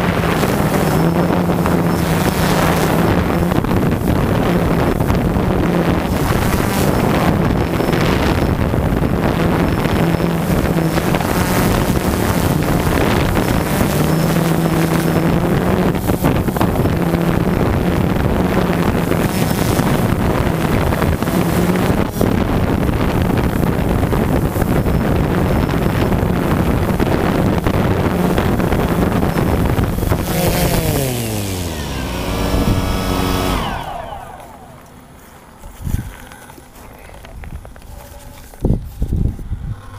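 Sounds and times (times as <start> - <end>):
drone motors spinning down: 0.0 - 36.3
drone propellers buzzing: 0.0 - 39.9
wind noise on microphone: 0.0 - 39.9.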